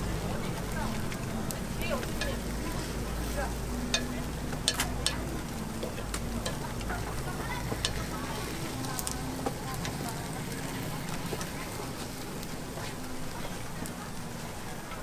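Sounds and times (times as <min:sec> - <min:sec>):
batter sizzling in metal mold: 0:00.0 - 0:15.0.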